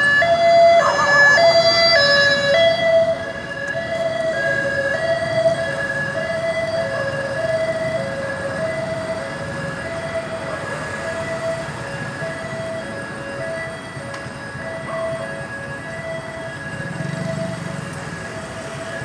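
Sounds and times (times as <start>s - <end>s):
ambulance siren two-tone: 0.0s - 19.0s
traffic rumble: 0.0s - 19.0s.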